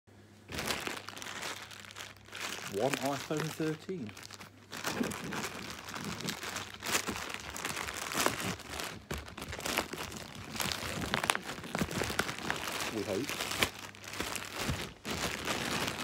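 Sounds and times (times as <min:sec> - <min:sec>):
plastic bag crinkling: 0:00.5 - 0:16.0.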